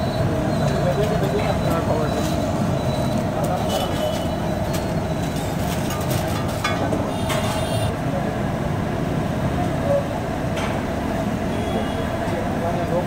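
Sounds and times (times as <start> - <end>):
busy street noise: 0.0 - 13.0.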